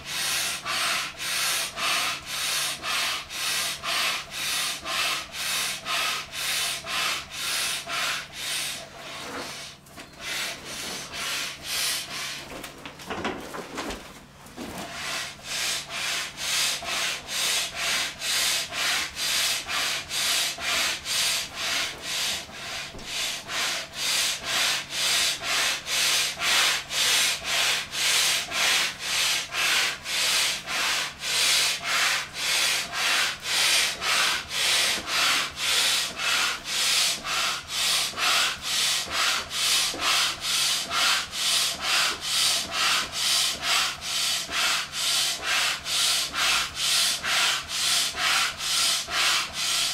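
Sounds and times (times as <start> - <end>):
hand air pump whooshing: 0.0 - 12.4, 14.8 - 49.9.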